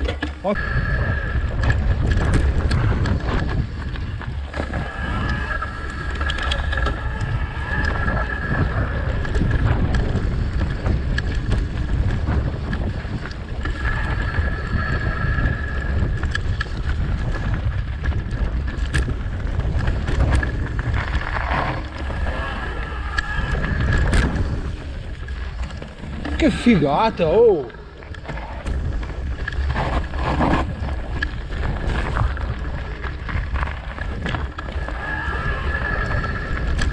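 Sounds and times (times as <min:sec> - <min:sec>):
bike rattling over bumps: 0:00.0 - 0:36.9
high whine from bike: 0:00.0 - 0:36.9
tyres rolling over dirt and leaves: 0:00.0 - 0:36.9
wind rumbling on microphone: 0:00.0 - 0:36.9.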